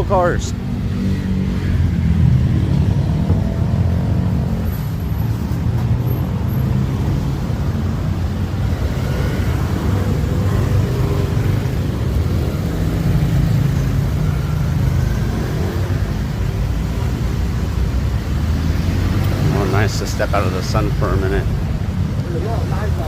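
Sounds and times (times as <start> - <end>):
cars passing close by: 0.0 - 23.0.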